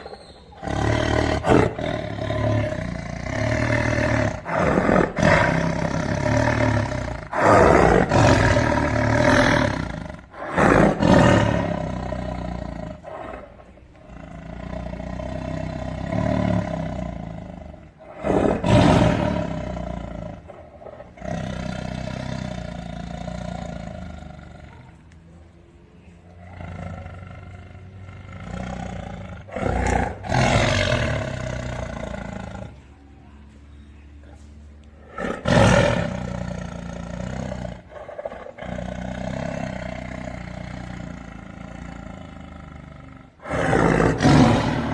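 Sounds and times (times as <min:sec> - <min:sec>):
tiger roaring: 0:00.0 - 0:25.0, 0:26.3 - 0:32.9, 0:34.4 - 0:44.9.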